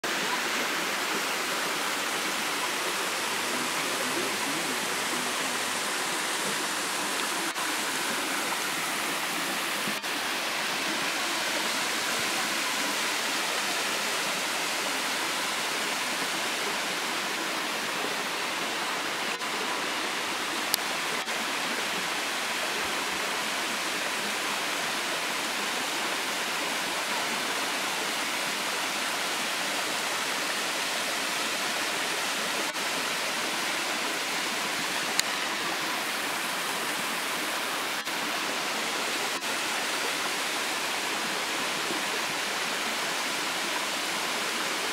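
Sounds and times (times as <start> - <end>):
waterfall rushing and splashing: 0.0 - 44.9.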